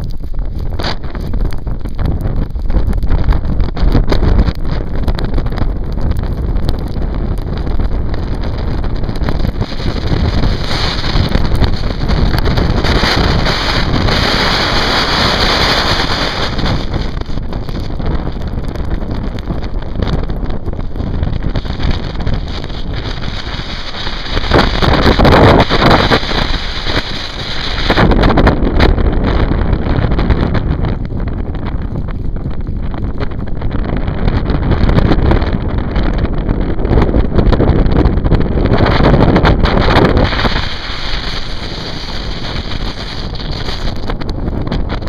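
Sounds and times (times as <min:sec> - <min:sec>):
strong wind gusting on microphone: 0:00.0 - 0:45.0.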